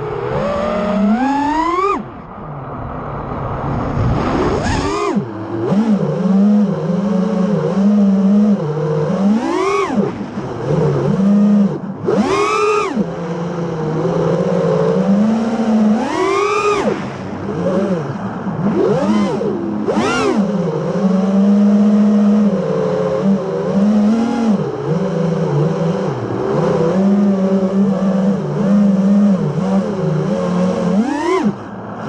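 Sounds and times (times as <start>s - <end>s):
quadcopter motors whining: 0.0s - 2.4s, 4.3s - 31.7s.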